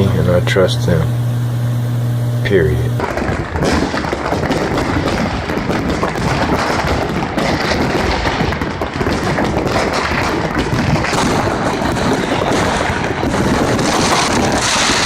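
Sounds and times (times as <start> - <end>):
fireworks popping and crackling: 0.0 - 1.0, 2.5 - 15.0.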